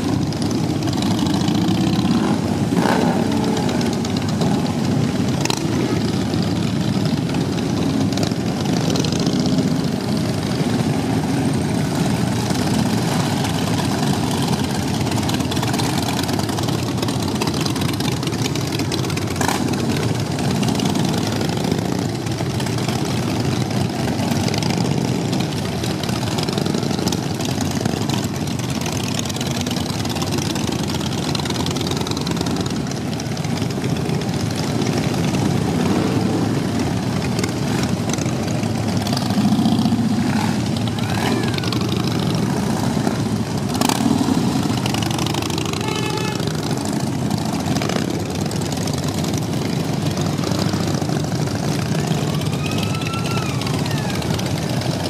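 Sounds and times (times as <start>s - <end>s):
motorcycles riding past: 0.0s - 55.0s.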